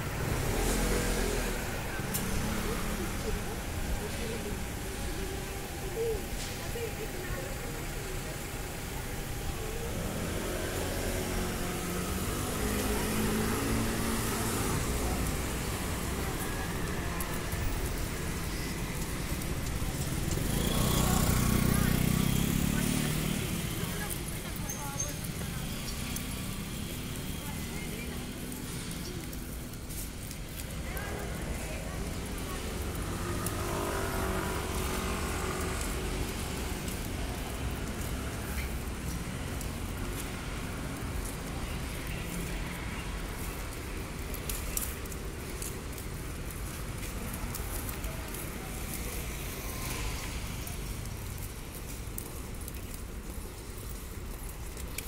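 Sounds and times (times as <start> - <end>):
car and scooter engines: 0.0 - 55.0
low traffic rumble: 0.0 - 55.0.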